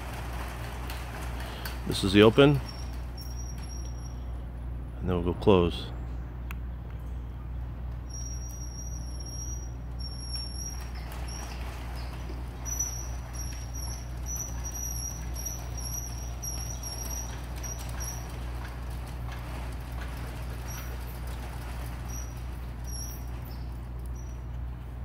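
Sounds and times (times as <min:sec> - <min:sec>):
gate squeaking: 0:00.0 - 0:04.6, 0:08.0 - 0:25.0.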